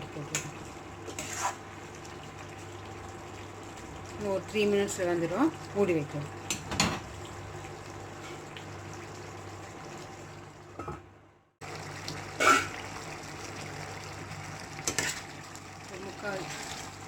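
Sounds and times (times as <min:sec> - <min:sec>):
pan simmering with bubbling hiss: 0:00.0 - 0:17.0.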